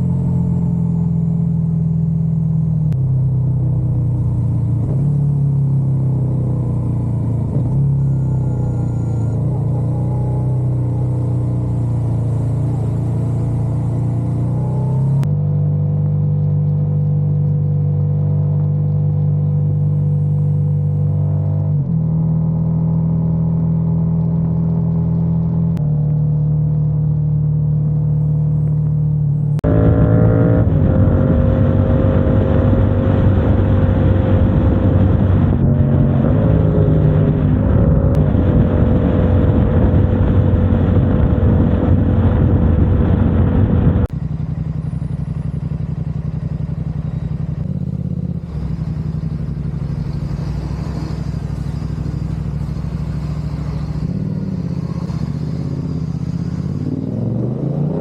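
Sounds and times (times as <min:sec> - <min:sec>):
motorcycle engine running: 0:00.0 - 0:57.4
road and wind noise: 0:00.0 - 0:58.0.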